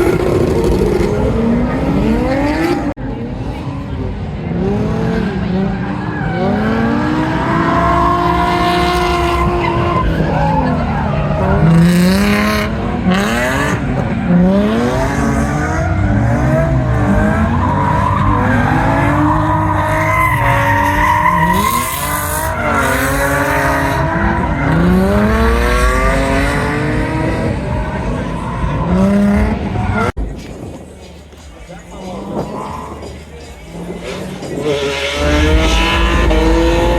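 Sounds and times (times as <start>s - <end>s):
tyres squealing and skidding: 0.0s - 30.2s
car engines revving hard: 0.0s - 36.9s.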